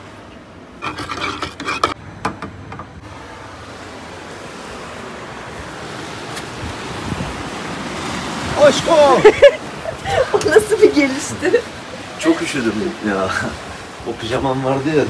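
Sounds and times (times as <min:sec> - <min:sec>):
wind: 0:00.0 - 0:15.0
surf: 0:02.6 - 0:15.0.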